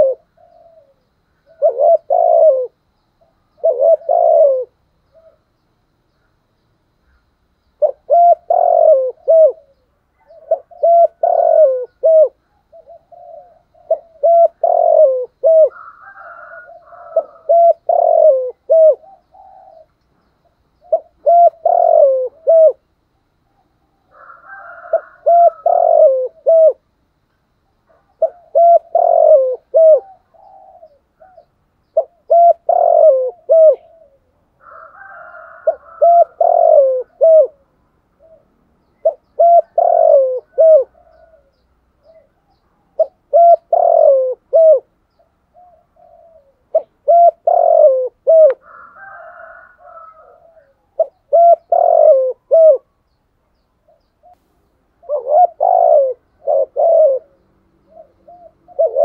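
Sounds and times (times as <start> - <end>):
dove cooing: 0.0 - 5.5, 7.8 - 20.0, 20.8 - 26.9, 27.8 - 53.1, 53.8 - 59.0.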